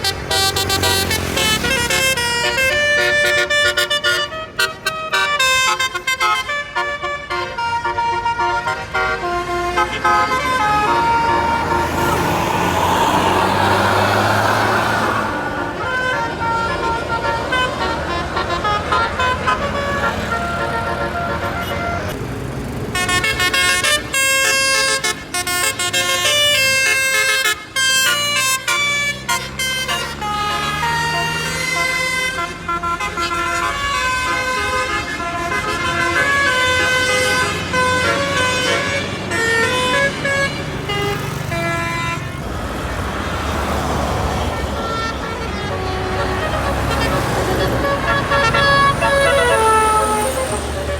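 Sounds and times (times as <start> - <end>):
bus engine running: 0.0 - 27.2, 28.0 - 50.9
multi-tone bus horn melody: 0.0 - 50.9.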